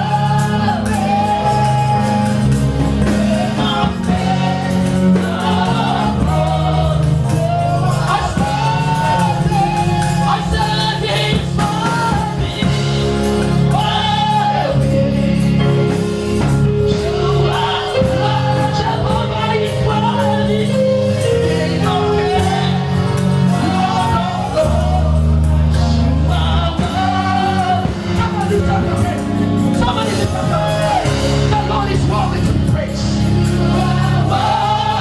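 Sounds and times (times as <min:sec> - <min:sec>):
gospel music with singing: 0:00.0 - 0:35.0.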